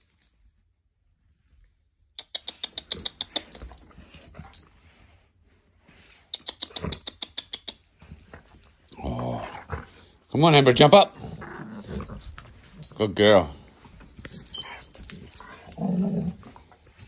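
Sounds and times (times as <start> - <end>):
dogs clicking and scuffling: 2.3 - 5.0, 5.9 - 17.0.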